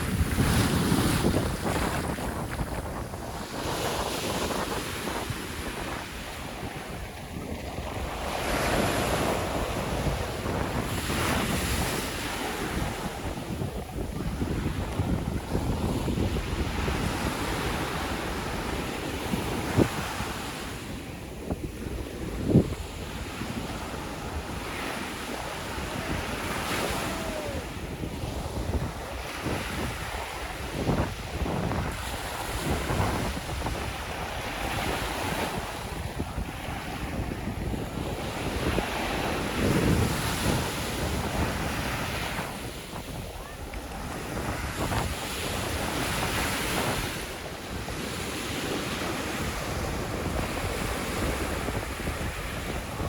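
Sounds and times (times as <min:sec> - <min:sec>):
sea waves breaking: 0:00.0 - 0:53.0
wind on microphone: 0:00.0 - 0:53.0.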